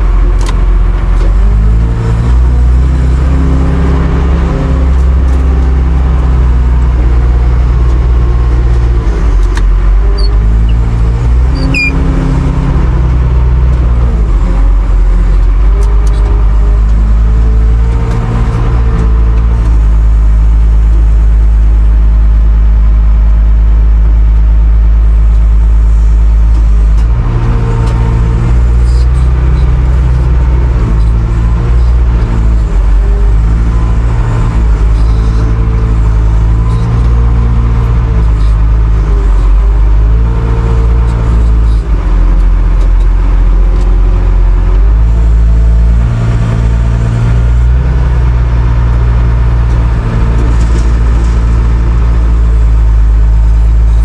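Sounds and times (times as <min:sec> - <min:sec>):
loader diesel engine revving: 0:00.0 - 0:54.0.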